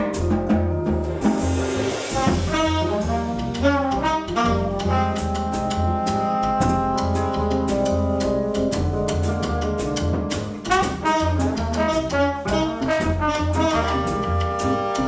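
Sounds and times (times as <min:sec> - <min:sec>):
drum kit with cymbals: 0:00.0 - 0:15.0
trombone: 0:00.0 - 0:15.0
upright bass: 0:00.0 - 0:15.0
tenor saxophone: 0:02.2 - 0:15.0.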